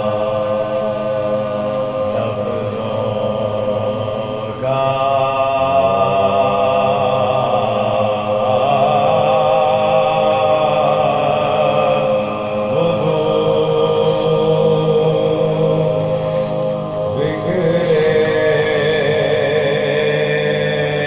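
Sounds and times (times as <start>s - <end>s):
men chanting long held notes: 0.0s - 21.0s.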